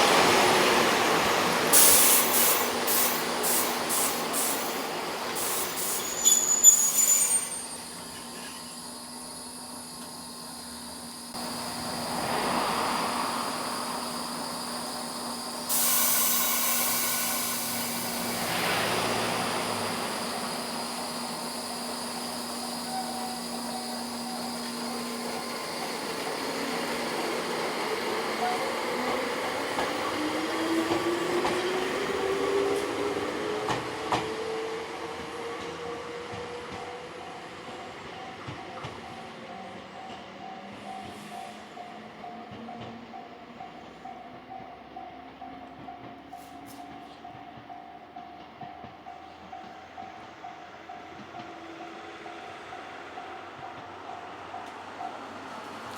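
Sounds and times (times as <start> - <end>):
electric train hum: 0.0 - 55.9.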